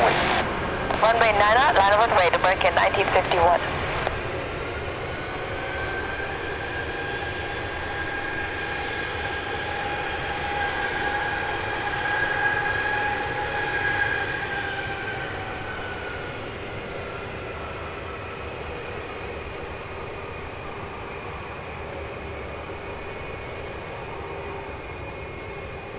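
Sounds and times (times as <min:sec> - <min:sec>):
jet airliner engines whining: 0:00.0 - 0:25.9.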